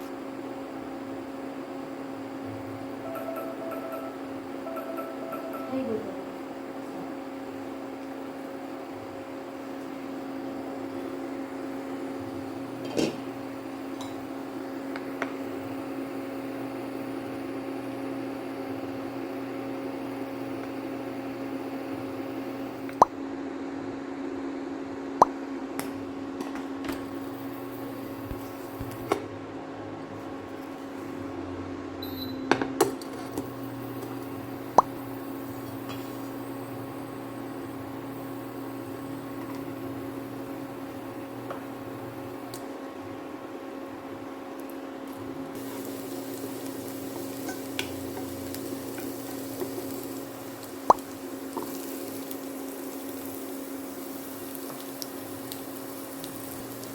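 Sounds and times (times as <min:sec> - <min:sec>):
machine hum: 0:00.0 - 0:26.2, 0:33.2 - 0:56.9.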